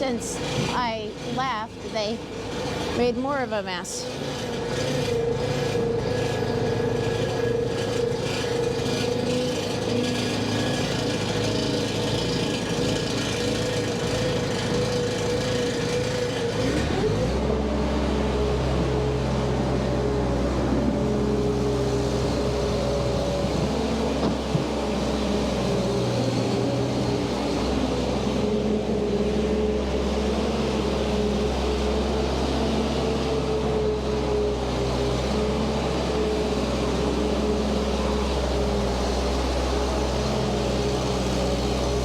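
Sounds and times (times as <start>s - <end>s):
skid steer engine running: 0.0s - 42.0s.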